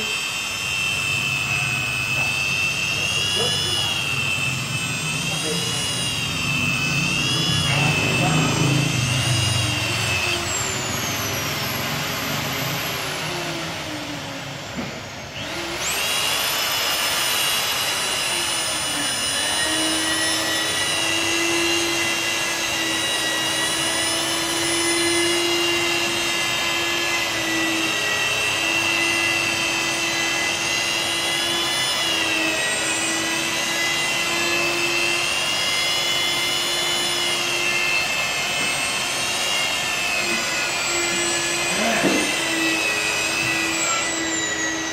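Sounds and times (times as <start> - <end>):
electric polisher whining: 0.0 - 44.9.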